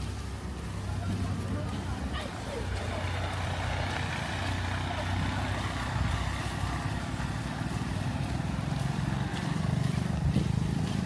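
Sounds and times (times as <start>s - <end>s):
engine running with hiss: 0.0s - 11.0s.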